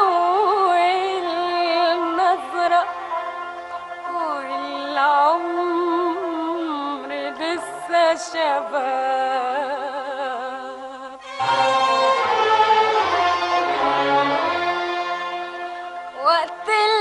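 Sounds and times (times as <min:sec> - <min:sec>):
string accompaniment: 0:00.0 - 0:10.2, 0:11.2 - 0:17.0
woman singing with vibrato: 0:00.0 - 0:12.4, 0:13.6 - 0:17.0.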